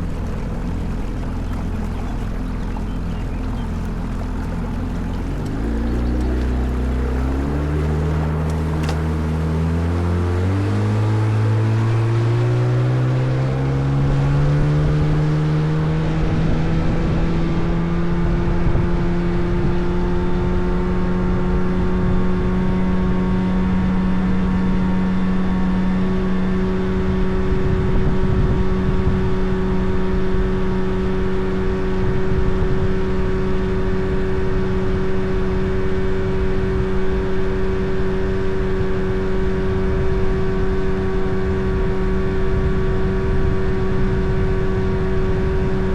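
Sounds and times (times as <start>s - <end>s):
motorboat engine: 0.0s - 45.9s.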